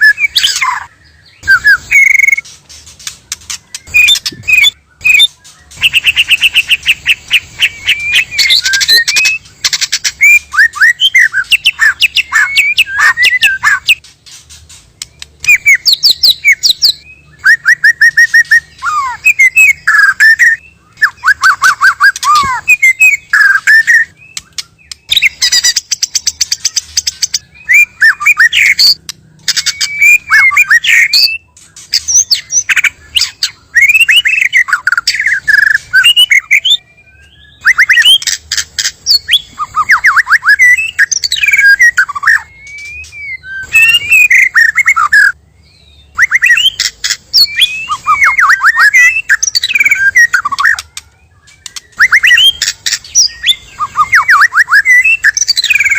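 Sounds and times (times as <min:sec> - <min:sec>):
bird singing clicks and whistles: 0:00.0 - 0:45.4, 0:46.1 - 0:55.9.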